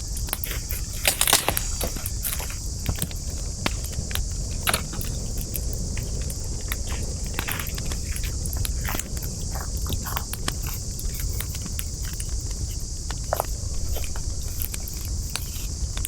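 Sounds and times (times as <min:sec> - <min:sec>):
steady high hiss: 0:00.0 - 0:16.0
campfire crackling and popping: 0:00.2 - 0:16.0.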